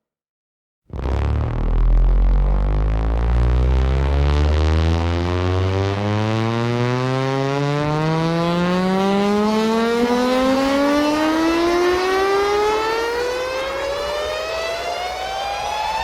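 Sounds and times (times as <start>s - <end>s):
synthesized siren rising: 0.9s - 16.0s.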